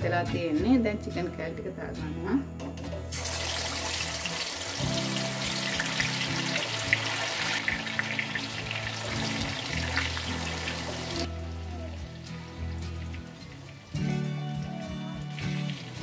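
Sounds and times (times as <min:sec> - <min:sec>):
chicken deep-frying in oil: 0:03.1 - 0:16.0.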